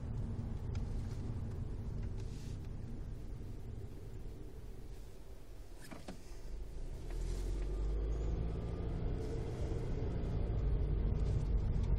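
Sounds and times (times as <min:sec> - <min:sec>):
car engine and road rumble: 0:00.0 - 0:11.9
faint rising whine: 0:00.0 - 0:11.9.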